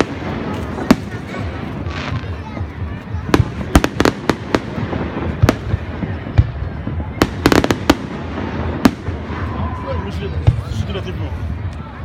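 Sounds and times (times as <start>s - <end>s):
fireworks cracking: 0.0s - 10.8s.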